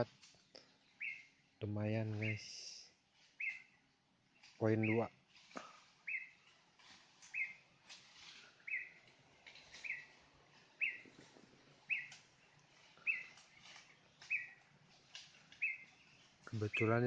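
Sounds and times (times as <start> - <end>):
faint rustles: 1.7 - 17.0.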